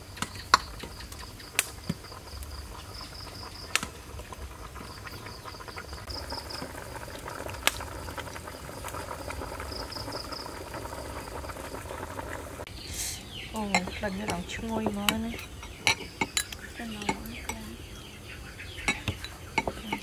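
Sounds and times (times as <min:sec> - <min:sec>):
crickets chirping: 0:00.0 - 0:20.0
pot bubbling: 0:00.0 - 0:20.0.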